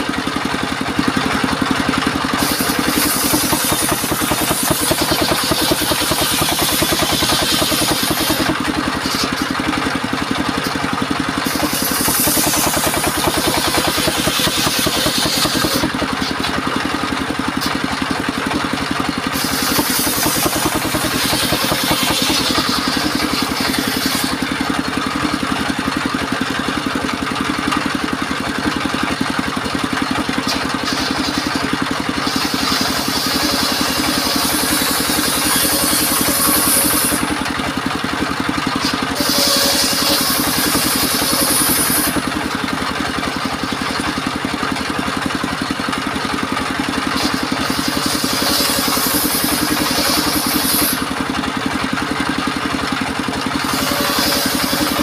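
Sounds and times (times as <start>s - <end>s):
saw blade ripping timber: 0.0s - 55.0s
sawmill engine running: 0.0s - 55.0s.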